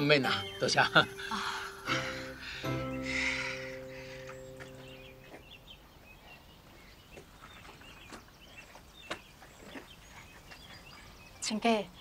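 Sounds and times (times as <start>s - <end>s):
faint outdoor ambience: 0.0s - 12.0s
small birds chirping: 0.0s - 12.0s.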